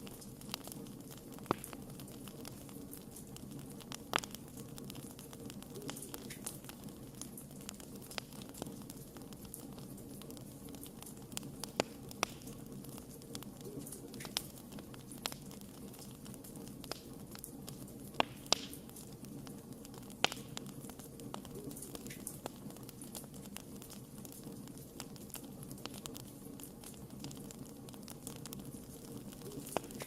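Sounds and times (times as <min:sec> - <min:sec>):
fire hiss: 0:00.0 - 0:30.0
wood fire crackling and popping: 0:00.0 - 0:30.0.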